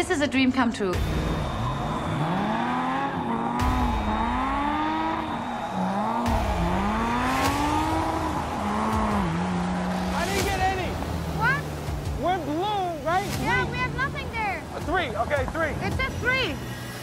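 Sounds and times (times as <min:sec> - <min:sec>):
car engine revving: 0:00.8 - 0:17.0.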